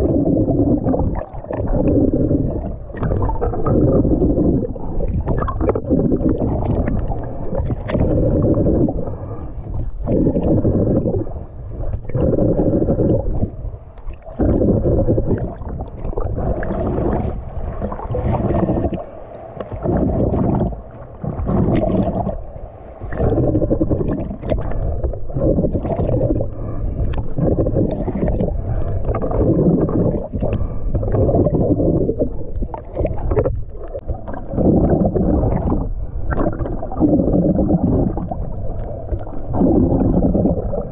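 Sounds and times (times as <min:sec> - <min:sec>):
underwater rumbling and sloshing: 0:00.0 - 0:40.9.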